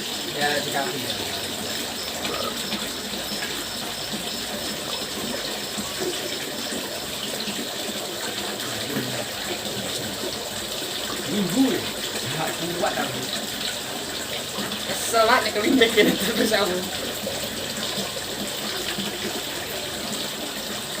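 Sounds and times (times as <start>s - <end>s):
water fountain splashing: 0.0s - 21.0s.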